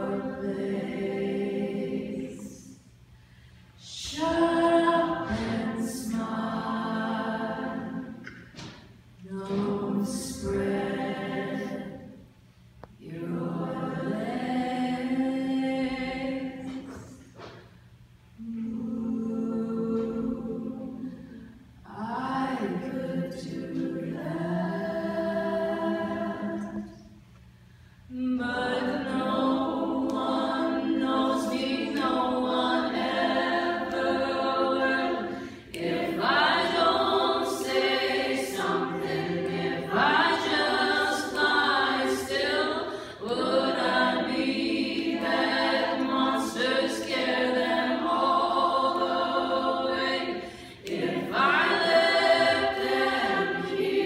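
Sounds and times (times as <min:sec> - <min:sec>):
women's choir singing: 0:00.0 - 0:02.9, 0:03.8 - 0:12.3, 0:12.9 - 0:17.6, 0:18.4 - 0:27.2, 0:28.1 - 0:54.0.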